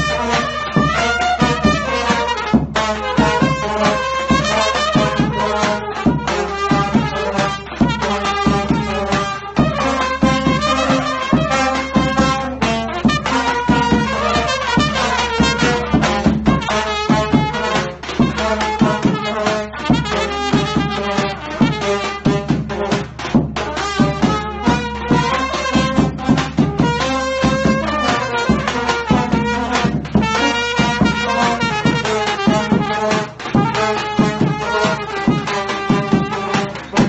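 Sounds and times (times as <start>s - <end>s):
bass drum beat: 0.0s - 37.0s
brass band playing: 0.0s - 37.0s.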